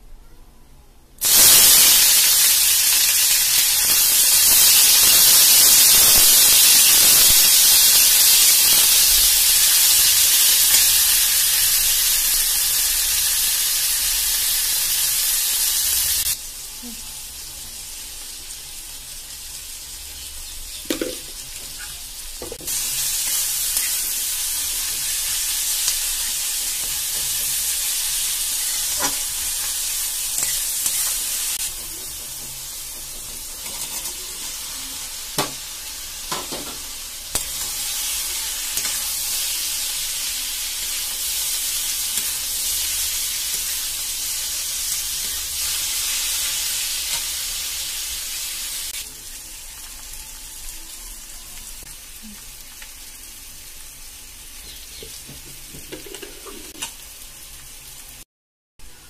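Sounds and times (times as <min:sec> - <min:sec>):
onions sizzling in oil: 0:01.2 - 0:58.2.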